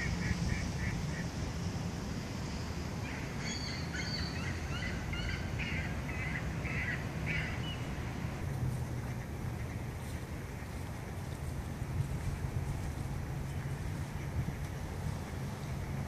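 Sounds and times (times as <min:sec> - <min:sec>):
steady low rumble: 0:00.0 - 0:16.0
birds calling: 0:03.0 - 0:16.0.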